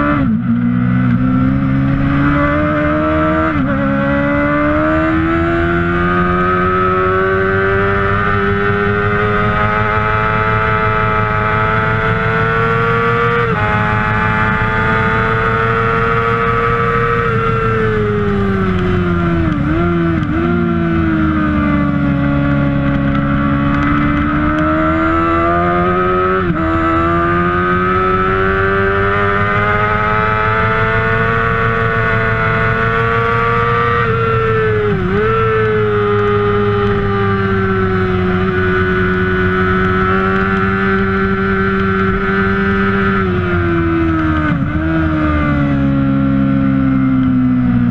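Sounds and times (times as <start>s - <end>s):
motorcycle engine at high revs: 0.0s - 47.9s.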